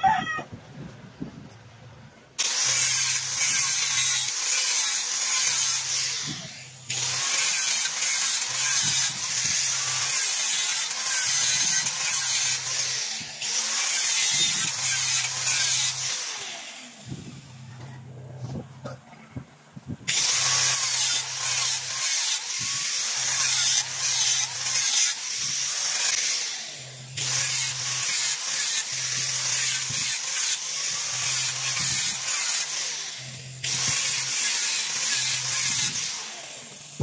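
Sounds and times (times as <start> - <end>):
angle grinder cutting rubber: 2.4 - 19.0, 20.1 - 37.0.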